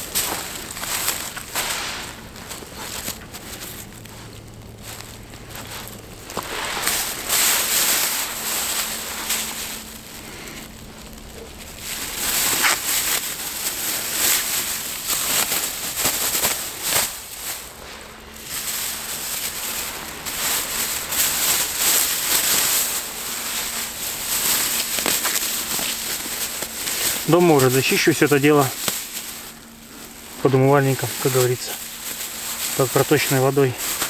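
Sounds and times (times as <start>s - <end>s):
feathers and skin tearing: 0.0s - 34.0s.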